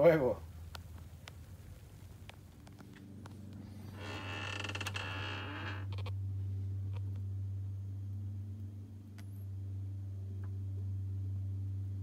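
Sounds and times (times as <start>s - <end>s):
cooling unit humming: 0.0s - 12.0s.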